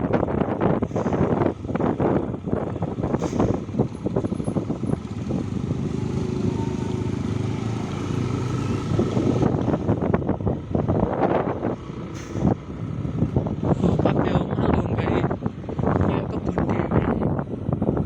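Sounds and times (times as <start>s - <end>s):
vehicle engine running: 0.0s - 18.0s
wind gusting on microphone: 0.0s - 18.0s.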